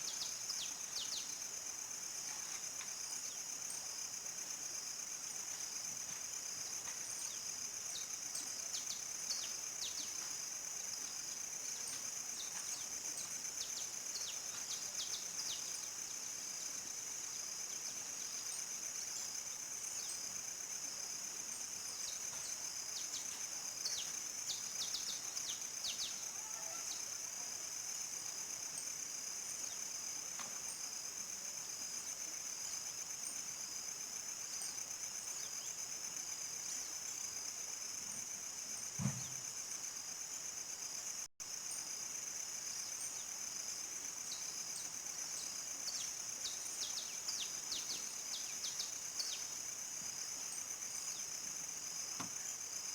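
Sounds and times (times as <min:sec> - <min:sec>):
crickets trilling: 0:06.6 - 0:52.9.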